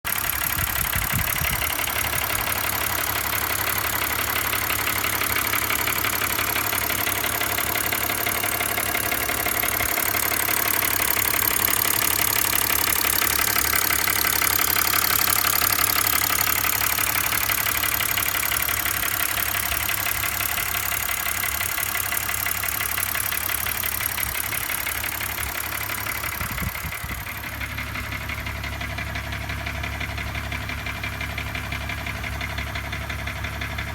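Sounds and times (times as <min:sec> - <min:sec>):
car engine rattling: 0:00.0 - 0:33.9.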